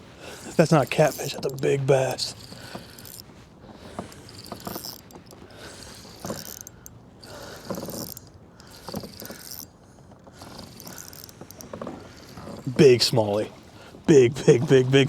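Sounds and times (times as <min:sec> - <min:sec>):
fishing reel being cranked: 0:00.2 - 0:13.1.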